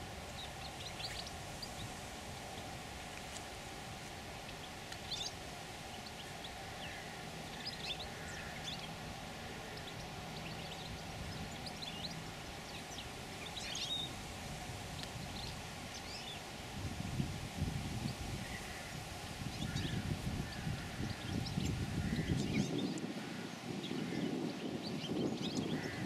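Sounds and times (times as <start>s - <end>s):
small birds chirping: 0.0s - 16.6s, 17.6s - 26.0s
outdoor background hiss and hum: 0.0s - 26.0s.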